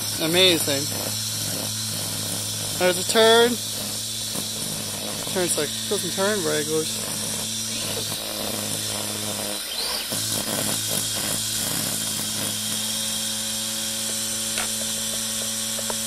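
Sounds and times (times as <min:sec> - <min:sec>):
lawn mower motor hum: 0:00.0 - 0:16.0.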